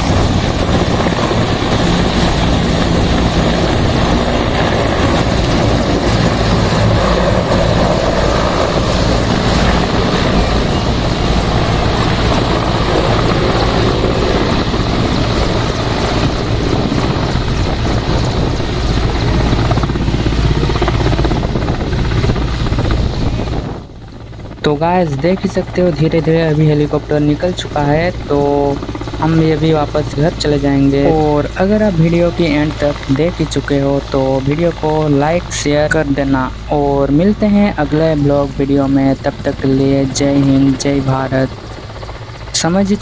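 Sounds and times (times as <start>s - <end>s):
helicopter rotors and turbine engines: 0.0s - 43.0s.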